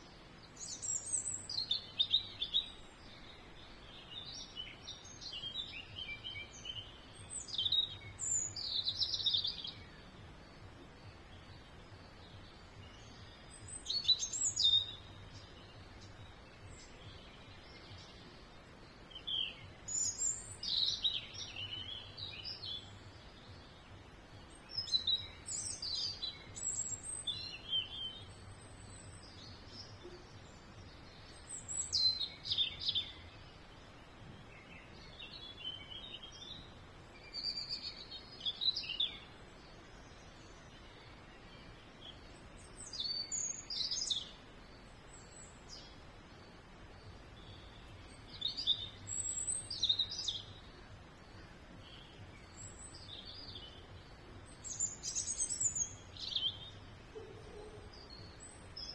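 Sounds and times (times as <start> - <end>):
faint background noise: 0.0 - 58.9
songbird chirping and trilling: 0.0 - 58.9.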